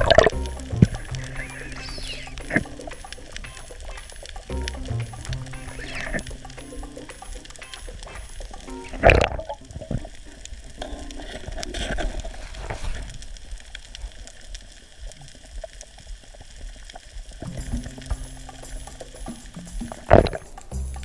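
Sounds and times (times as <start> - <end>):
underwater crackling and sizzling: 0.0 - 21.0.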